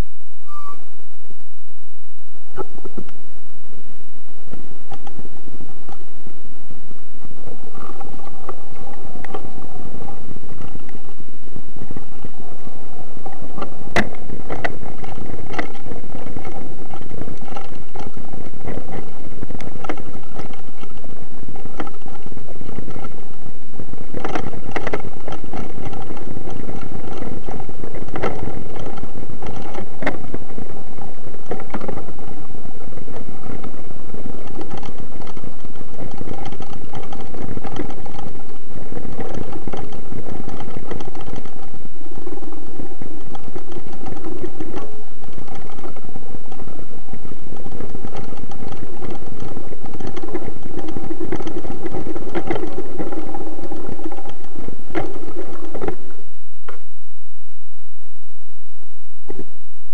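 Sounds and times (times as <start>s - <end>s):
bike tyres rumbling and rattling: 0.0s - 59.9s.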